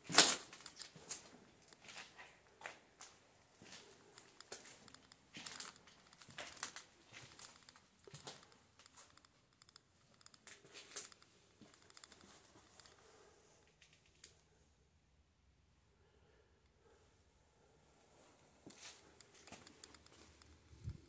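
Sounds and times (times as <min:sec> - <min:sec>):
crinkling and crackling: 0:00.0 - 0:14.4, 0:18.2 - 0:21.0.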